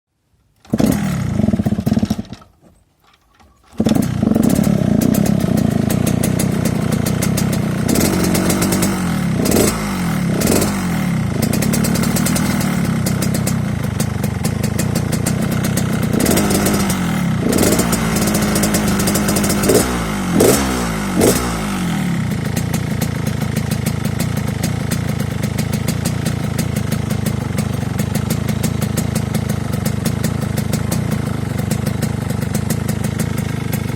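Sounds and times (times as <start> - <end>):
motorcycle engine revving and idling: 0.6 - 2.5, 3.7 - 33.9.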